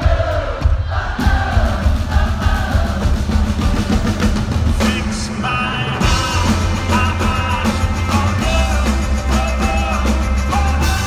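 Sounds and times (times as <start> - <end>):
lead vocal singing: 0.0 - 11.0
live pop-rock band: 0.0 - 11.0.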